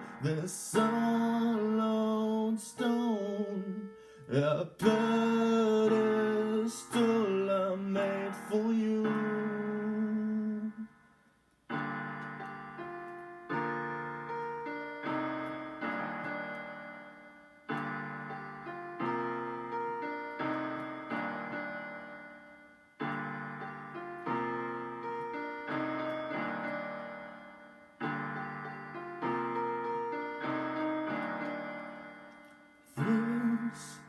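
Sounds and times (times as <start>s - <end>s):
solo piano chords: 0.0s - 34.0s.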